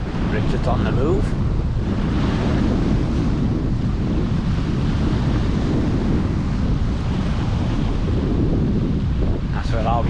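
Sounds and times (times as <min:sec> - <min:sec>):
sea: 0:00.0 - 0:10.0
wind buffeting microphone: 0:00.0 - 0:10.0.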